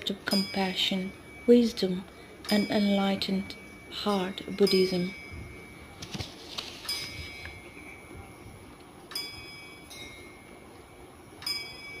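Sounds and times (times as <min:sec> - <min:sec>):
small metal bell ringing: 0:00.0 - 0:06.0, 0:06.8 - 0:10.6, 0:11.4 - 0:12.0.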